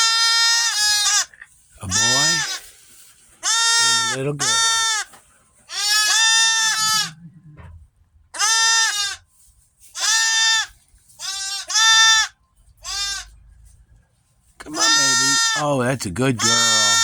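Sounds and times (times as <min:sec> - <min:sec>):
goat bleating: 0:00.0 - 0:02.7, 0:03.4 - 0:09.2, 0:09.9 - 0:13.4, 0:14.6 - 0:15.7, 0:16.3 - 0:17.0.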